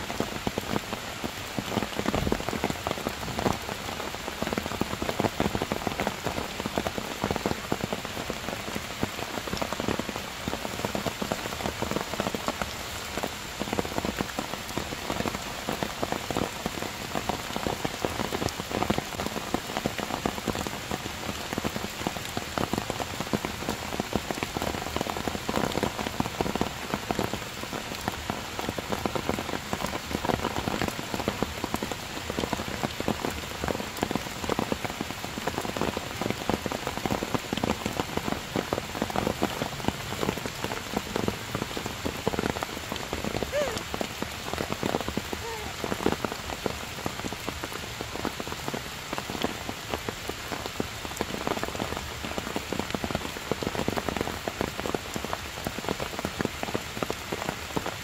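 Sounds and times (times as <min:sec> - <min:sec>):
heavy rain on foliage and stone: 0:00.0 - 0:58.0.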